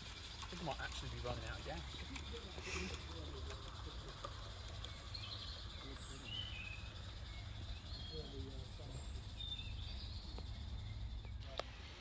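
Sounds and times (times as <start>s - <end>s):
steady low rumble: 0.0s - 12.0s
wild birds chirping: 0.0s - 12.0s
faint distant voices: 0.1s - 12.0s.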